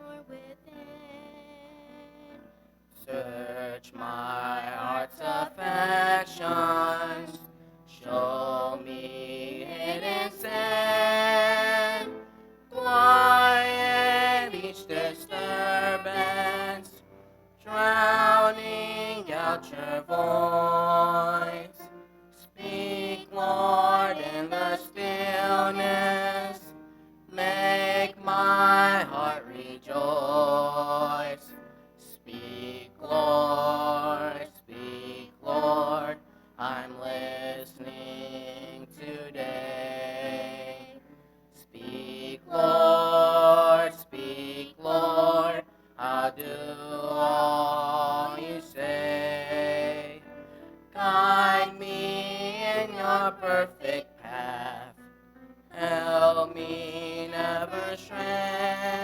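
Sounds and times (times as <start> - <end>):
slow hymn singing: 0.0 - 59.0.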